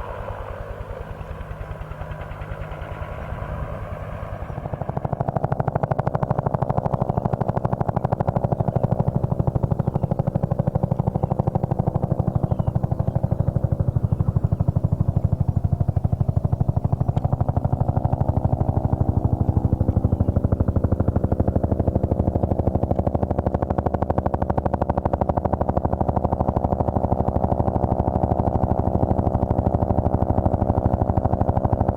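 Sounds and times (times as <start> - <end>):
helicopter rotor beating: 0.0 - 31.9
turbine engine hum: 0.0 - 31.9.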